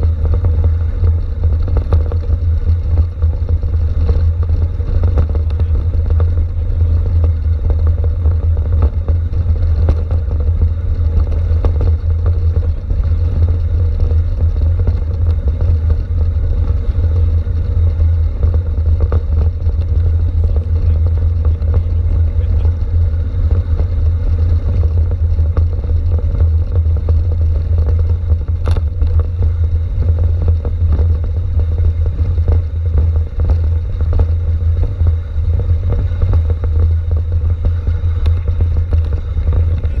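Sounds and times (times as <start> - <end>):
bike rattling and knocking: 0.0 - 40.0
wind rumble on microphone: 0.0 - 40.0.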